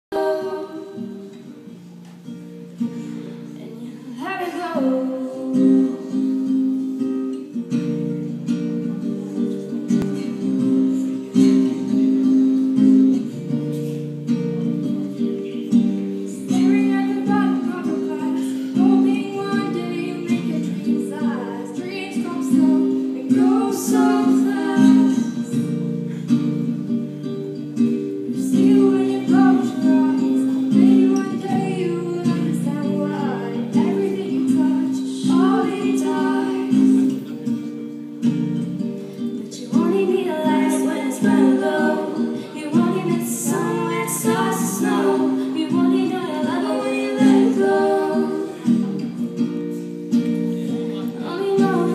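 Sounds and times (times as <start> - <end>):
woman singing: 0.1 - 1.8, 3.4 - 7.6, 8.8 - 26.7, 28.0 - 37.5, 39.2 - 49.5, 50.6 - 51.9
acoustic guitar strumming chords: 0.1 - 51.9.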